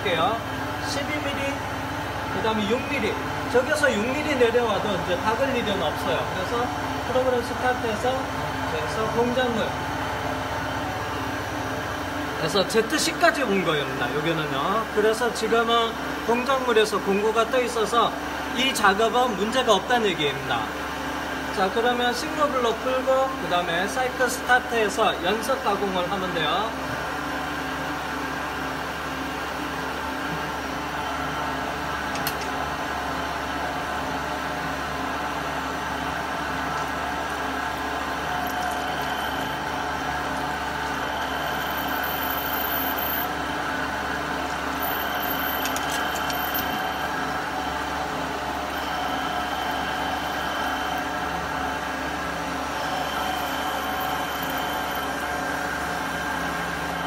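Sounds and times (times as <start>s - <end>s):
machine hum: 0.0s - 16.3s, 26.5s - 57.0s
high machine whine: 0.0s - 57.0s.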